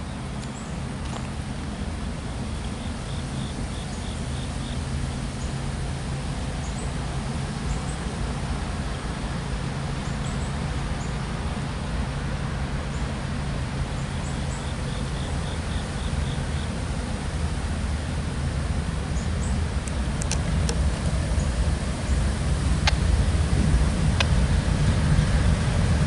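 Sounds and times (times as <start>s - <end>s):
distant locomotive engine drone: 0.0s - 26.0s.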